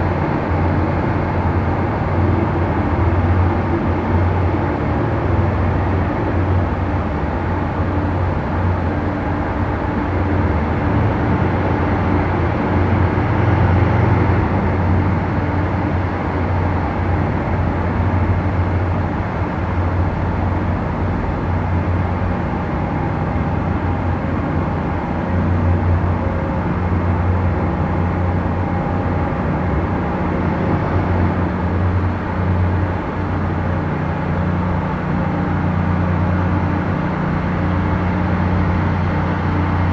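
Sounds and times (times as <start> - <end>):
boat engines droning: 0.0 - 39.9.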